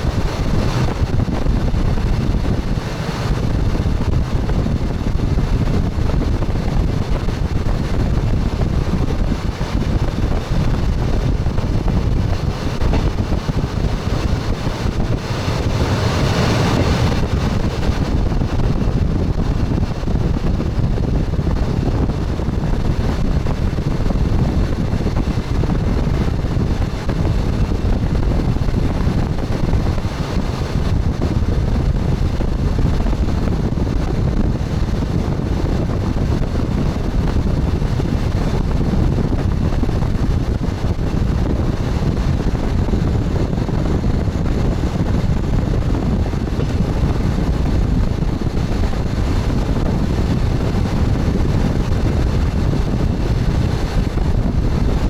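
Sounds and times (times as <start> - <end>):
train wheels rumbling: 0.0 - 55.0
wind noise: 0.0 - 55.0.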